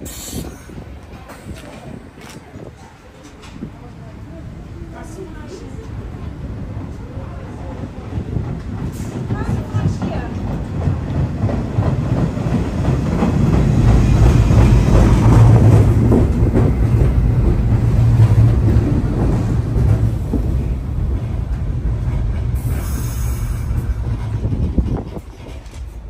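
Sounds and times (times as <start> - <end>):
subway train rumbling past: 0.0 - 26.0.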